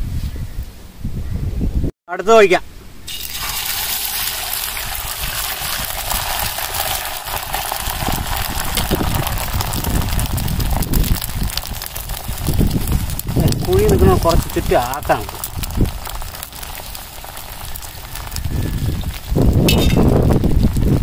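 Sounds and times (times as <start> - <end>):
egg sizzling on griddle: 3.0 - 21.0.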